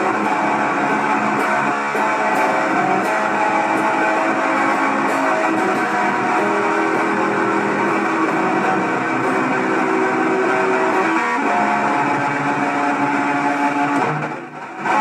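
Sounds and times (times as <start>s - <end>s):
guitar strummed: 0.0s - 15.0s.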